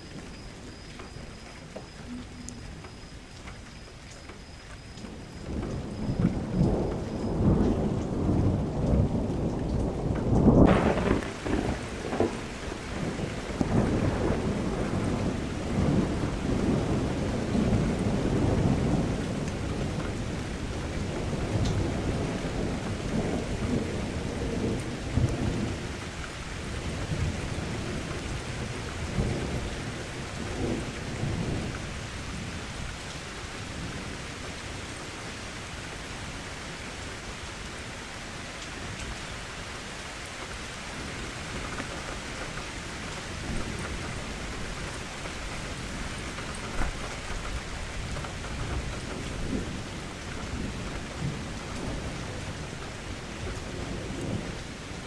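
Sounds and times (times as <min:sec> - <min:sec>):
thunder rumbling: 0:00.0 - 0:37.9, 0:38.7 - 0:55.0
steady rain: 0:00.0 - 0:55.0.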